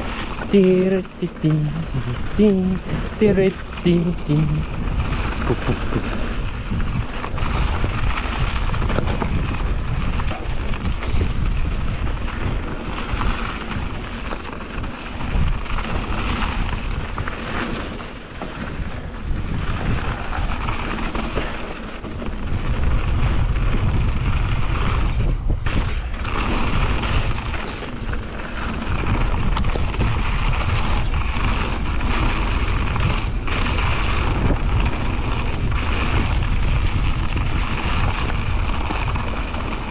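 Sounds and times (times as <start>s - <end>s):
bike tyre noise: 0.0s - 39.9s
wind rushing over microphone: 0.0s - 39.9s
bike knocks and rattles: 4.8s - 39.9s.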